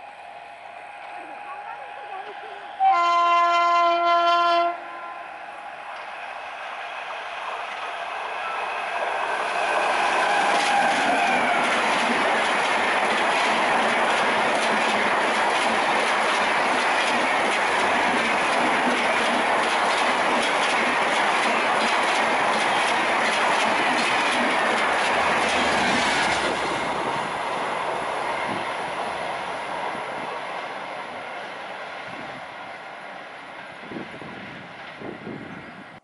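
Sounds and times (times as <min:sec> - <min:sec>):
train rushing past: 0:00.0 - 0:36.0.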